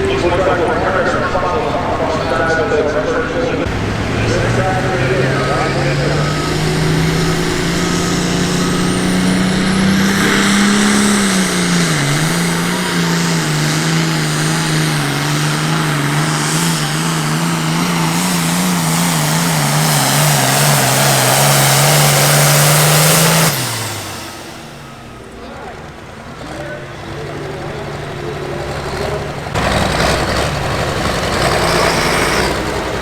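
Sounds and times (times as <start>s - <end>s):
diesel tractor engine under load: 0.0s - 33.0s
high turbo whine: 0.0s - 33.0s.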